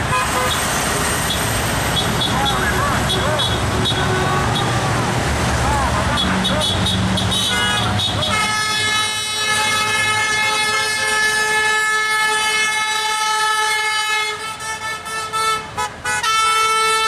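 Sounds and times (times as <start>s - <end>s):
vehicle horn honking: 1.3s - 4.9s, 6.0s - 17.0s.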